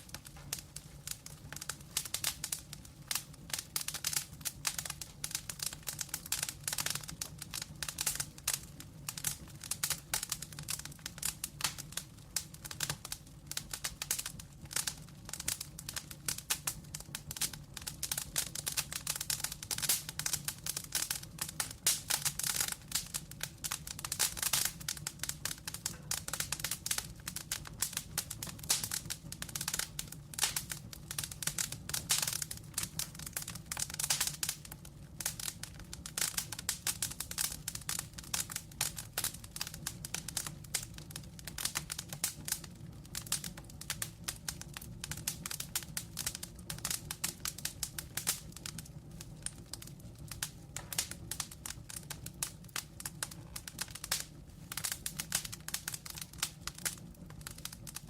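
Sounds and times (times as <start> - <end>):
burning logs crackling: 0.0 - 58.0.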